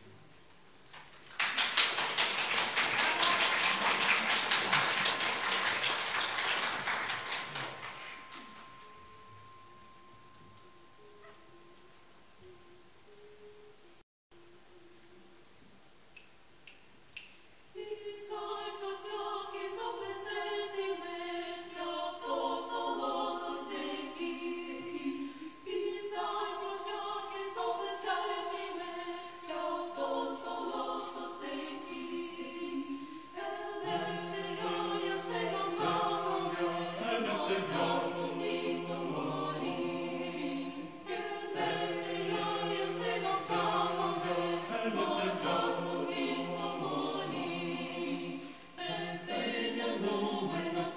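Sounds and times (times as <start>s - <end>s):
choir upper voices singing: 1.6s - 10.0s, 17.7s - 50.9s
choir lower voices singing: 2.0s - 9.6s, 17.7s - 50.9s.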